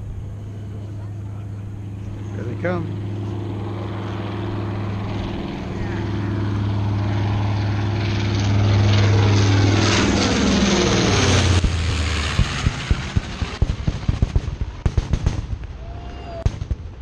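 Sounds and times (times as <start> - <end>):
propeller plane drone: 0.0 - 17.0.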